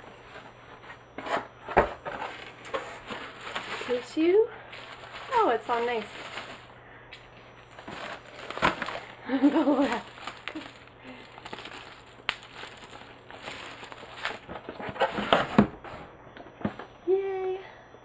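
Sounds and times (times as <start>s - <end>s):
paper and plastic wrap rustling: 0.0s - 16.0s.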